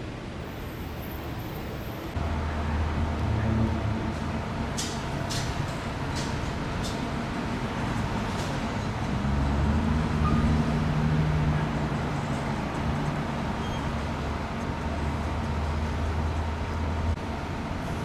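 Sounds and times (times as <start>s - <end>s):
traffic noise: 0.0s - 18.0s
large vehicle engine humming: 0.1s - 18.0s.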